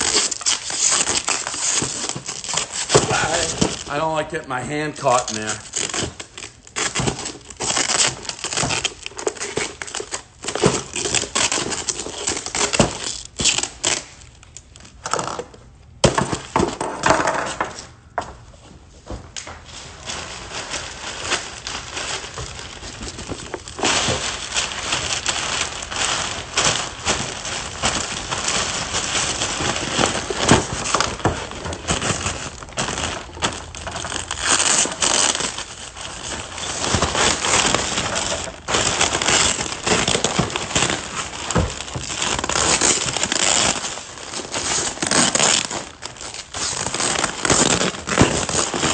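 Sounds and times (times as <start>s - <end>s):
plastic bag rustling and crinkling: 0.0s - 15.4s, 18.6s - 48.9s.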